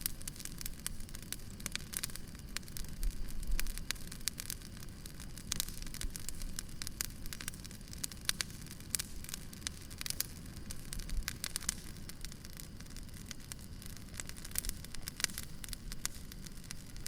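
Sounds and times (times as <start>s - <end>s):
firewood crackling and popping: 0.0s - 17.0s
low steady fire rumble: 0.0s - 17.0s.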